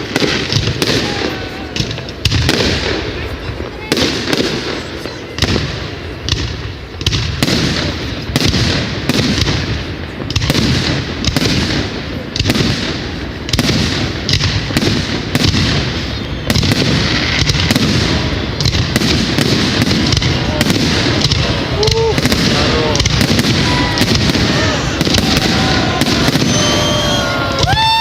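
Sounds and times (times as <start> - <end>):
fireworks bangs: 0.0 - 28.0
fireworks crackle: 0.0 - 28.0.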